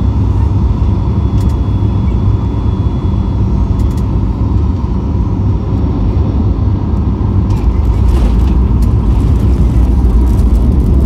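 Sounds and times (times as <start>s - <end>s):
airflow and jet engine rumble: 0.0s - 11.0s
faint steady whine: 0.0s - 11.0s.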